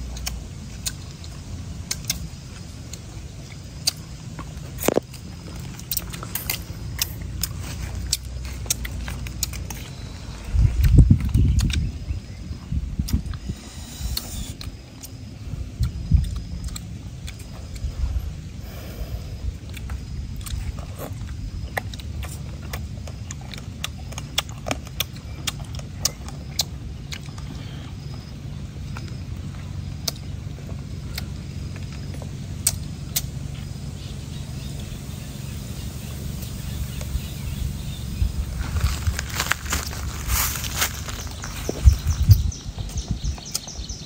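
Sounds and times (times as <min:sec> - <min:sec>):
chewing crunches: 0:00.0 - 0:12.1, 0:13.0 - 0:44.0
steady low rumble: 0:00.0 - 0:44.0.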